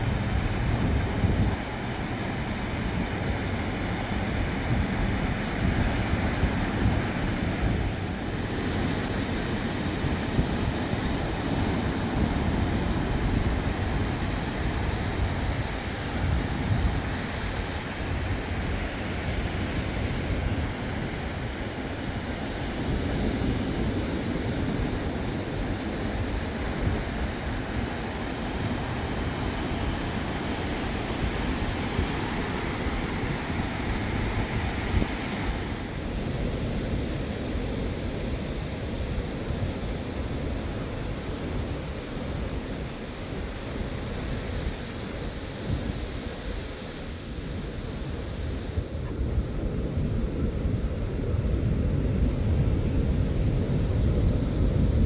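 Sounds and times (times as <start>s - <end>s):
small waves breaking on sand: 0.0s - 55.0s
wind on microphone: 0.0s - 55.0s.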